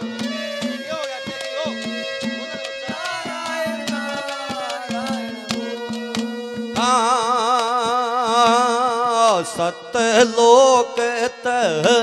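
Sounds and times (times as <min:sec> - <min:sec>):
harmonium melody: 0:00.0 - 0:12.0.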